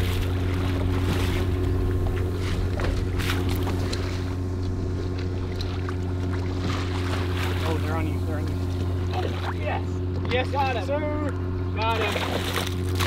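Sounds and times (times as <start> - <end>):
water splashes and knocks: 0.0 - 10.7, 11.8 - 13.0
boat engine droning: 0.0 - 13.0.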